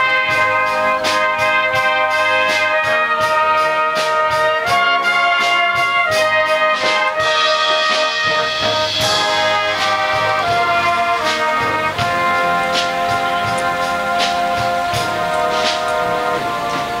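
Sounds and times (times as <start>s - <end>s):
brass band chords: 0.0s - 17.0s
percussion beat: 0.0s - 17.0s.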